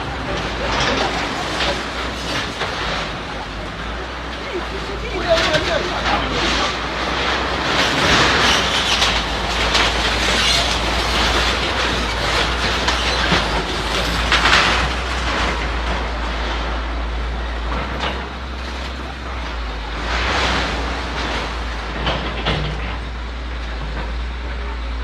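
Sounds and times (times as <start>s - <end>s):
metallic grinding and clanking: 0.0s - 24.2s
bulldozer engine running: 0.0s - 25.0s.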